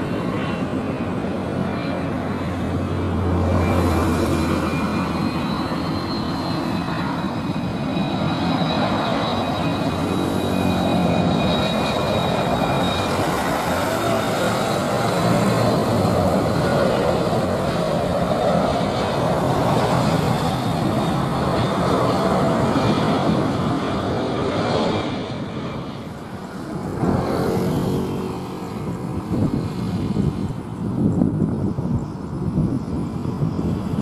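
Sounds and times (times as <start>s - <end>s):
jet engines rumbling and whining: 0.0s - 34.0s.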